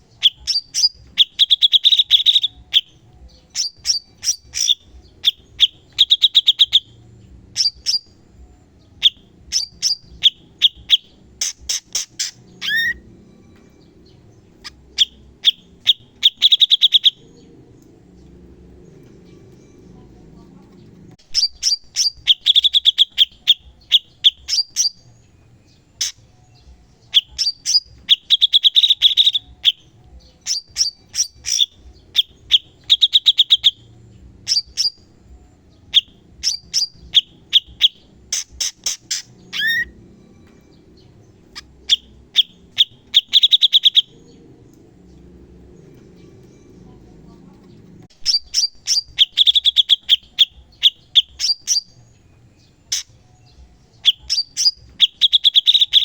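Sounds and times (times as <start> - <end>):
bird singing sharp trills: 0.0 - 56.0.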